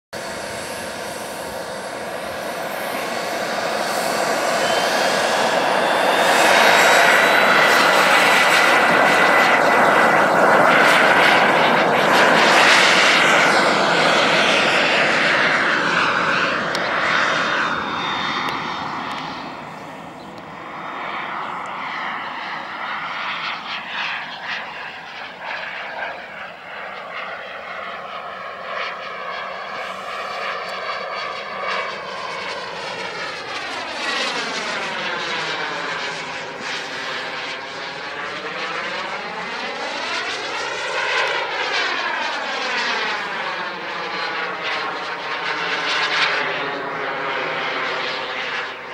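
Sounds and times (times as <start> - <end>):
model jet turbine whooshing: 0.2 - 48.9.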